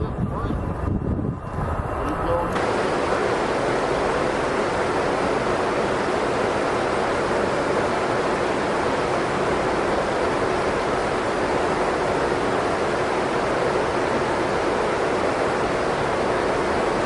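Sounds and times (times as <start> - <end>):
jet aircraft rushing hiss: 1.5 - 17.0.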